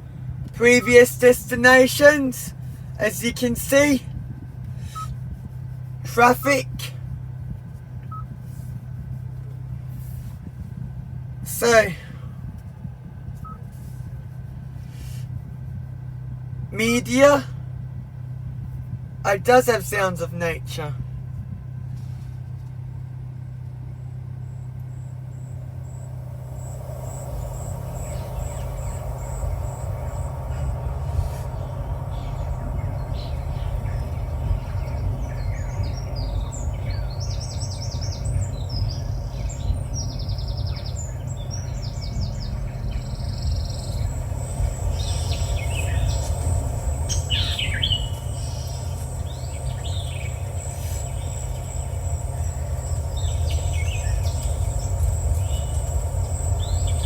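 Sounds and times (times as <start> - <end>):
recorded birdsong through speakers: 0.0 - 57.0
steady low hum: 0.0 - 57.0.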